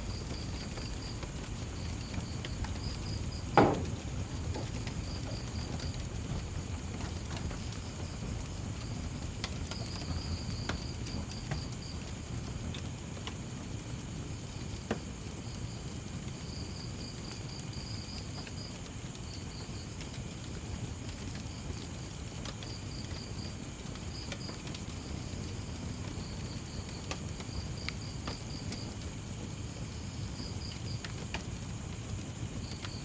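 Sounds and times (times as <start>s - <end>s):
crickets chirping: 0.0s - 33.0s
wood fire crackling and popping: 0.0s - 33.0s.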